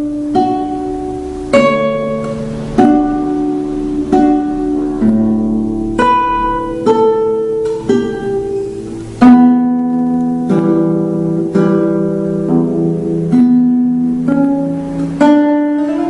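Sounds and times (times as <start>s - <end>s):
acoustic guitar plucked chords: 0.0s - 16.0s.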